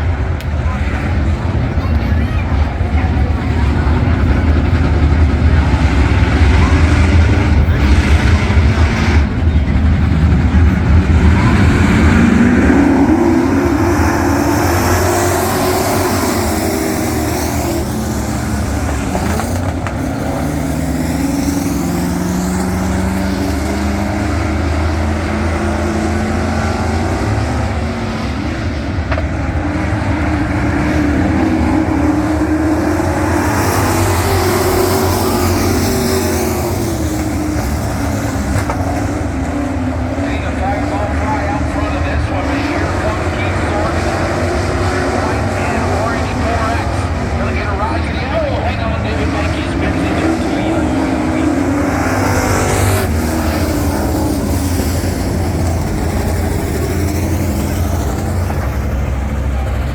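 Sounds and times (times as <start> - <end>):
race truck engines: 0.0 - 59.9.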